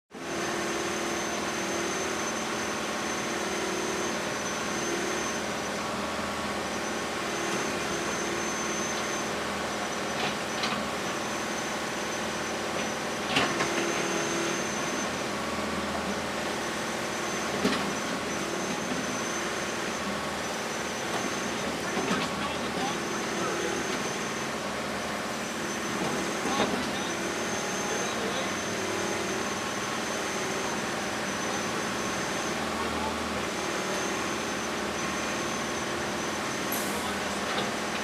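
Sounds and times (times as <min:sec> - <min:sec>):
construction machinery engine drone: 0:00.1 - 0:38.0.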